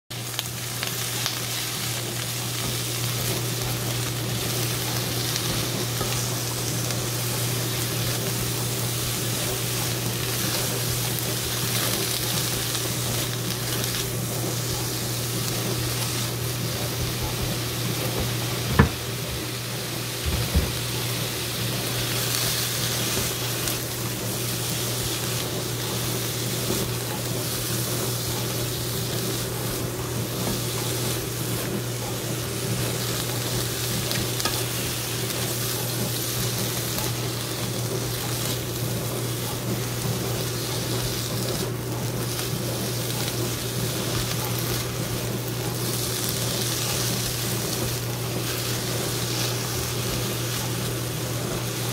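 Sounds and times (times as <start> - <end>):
vegetables sizzling in a pan: 0.1 - 51.9.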